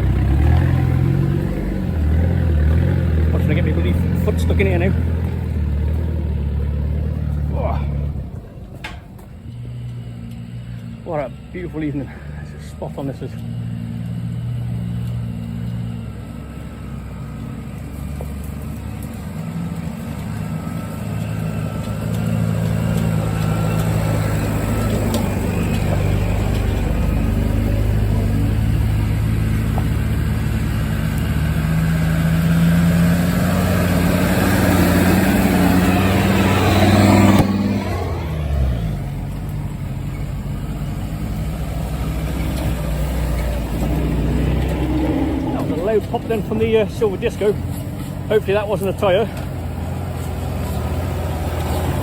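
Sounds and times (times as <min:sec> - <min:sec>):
off-road vehicle engine revving: 0:00.0 - 0:52.0
tyre and track noise: 0:00.0 - 0:52.0.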